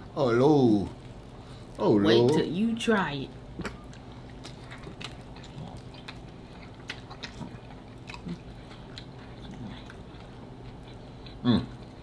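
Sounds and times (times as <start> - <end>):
faint low hum: 0.0 - 12.0
people chewing food: 0.0 - 12.0.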